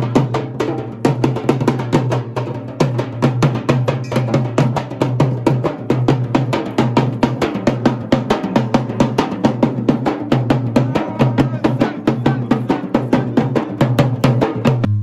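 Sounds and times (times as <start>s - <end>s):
barrel drum beating: 0.0s - 15.0s.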